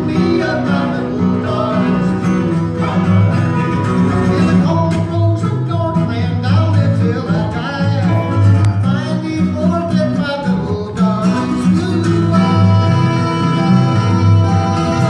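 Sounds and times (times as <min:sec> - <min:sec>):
acoustic bass guitar: 0:00.0 - 0:15.0
man singing: 0:00.0 - 0:15.0
slide guitar: 0:00.0 - 0:15.0
strummed acoustic guitar: 0:00.0 - 0:15.0.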